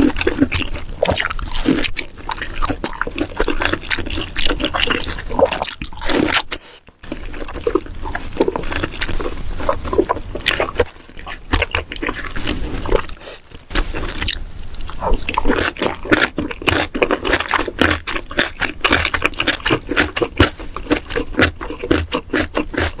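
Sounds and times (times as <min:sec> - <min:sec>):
wet chewing and crunching: 0:00.0 - 0:23.0.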